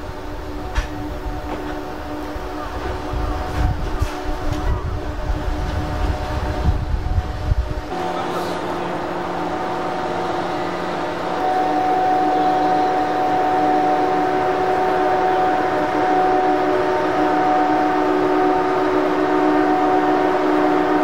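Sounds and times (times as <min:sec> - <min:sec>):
electric locomotive humming: 0:00.0 - 0:21.0.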